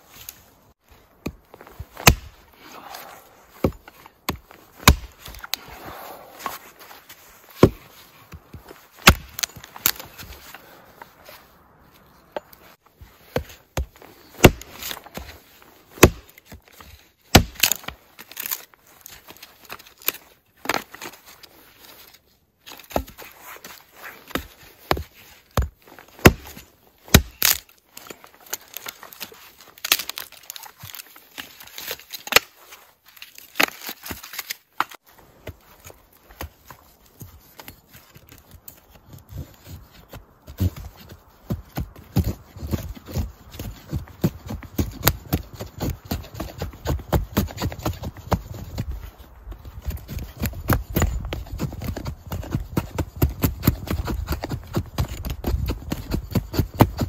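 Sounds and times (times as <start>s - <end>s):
hatchet splitting log: 0.9s - 11.1s, 13.2s - 22.0s, 22.6s - 32.6s, 33.2s - 57.0s.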